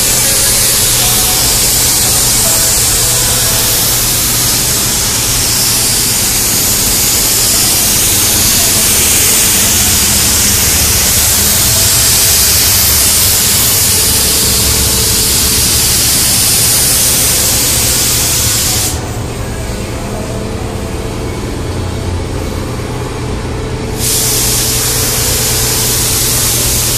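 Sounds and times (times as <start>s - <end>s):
spray paint gun hissing: 0.0s - 19.2s, 24.0s - 26.9s
steady low hum: 0.0s - 26.9s.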